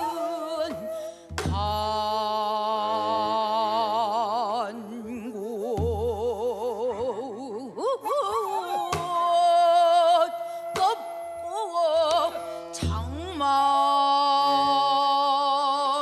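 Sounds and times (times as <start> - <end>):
person singing with wavering vibrato: 0.0 - 16.0.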